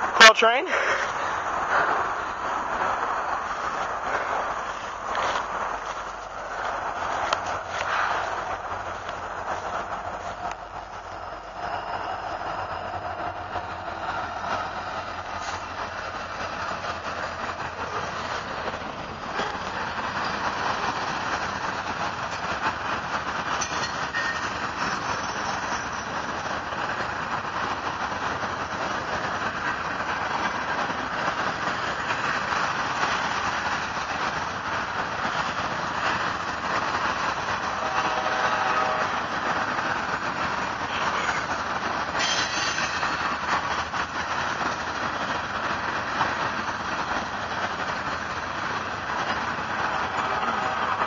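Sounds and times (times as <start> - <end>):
freight train rolling on rails: 0.0 - 51.0.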